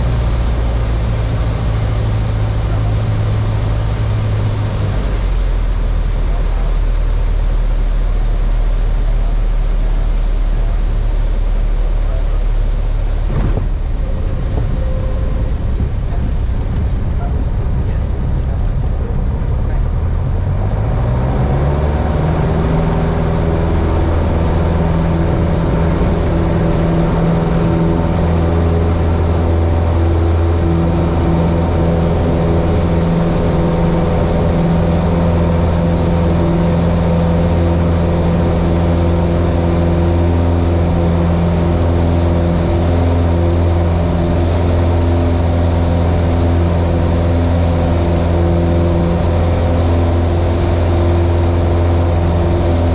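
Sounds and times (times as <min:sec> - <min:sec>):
propeller airplane engine: 0:00.0 - 0:52.9.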